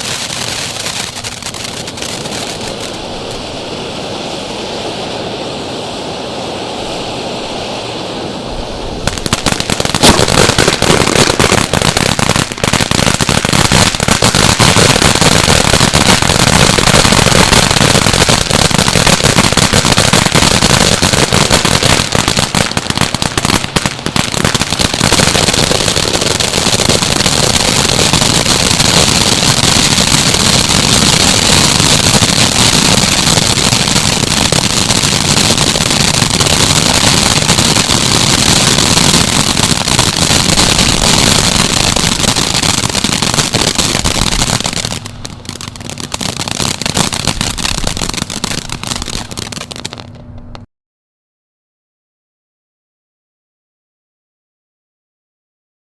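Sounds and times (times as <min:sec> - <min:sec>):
ground fountain firework crackling: 0:00.0 - 0:50.7.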